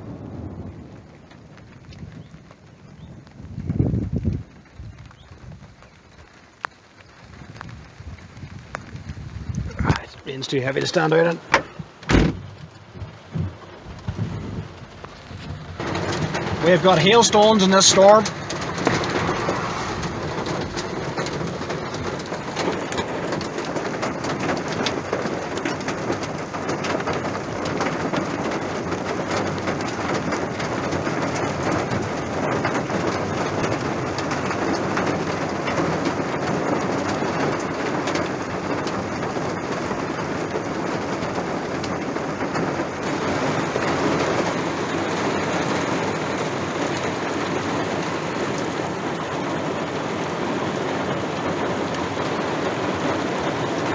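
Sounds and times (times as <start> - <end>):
heavy rain: 0.0 - 53.9
hailstones hitting: 7.4 - 53.9.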